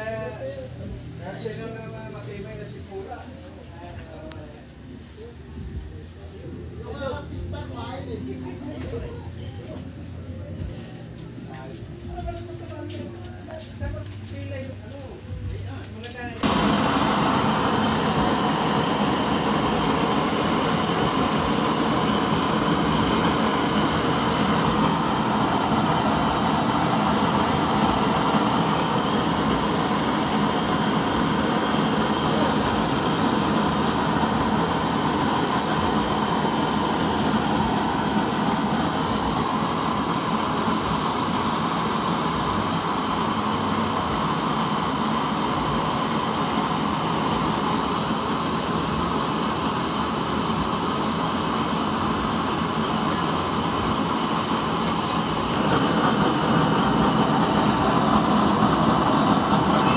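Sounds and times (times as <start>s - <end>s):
stove burners rushing: 0.0s - 59.9s.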